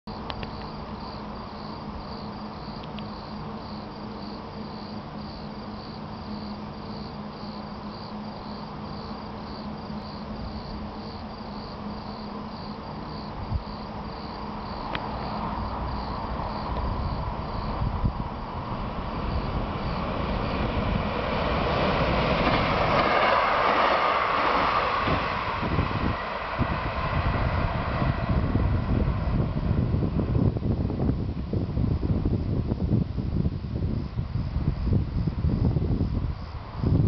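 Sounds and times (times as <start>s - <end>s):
crickets chirping: 0.1s - 37.0s
train rumble: 0.1s - 37.0s.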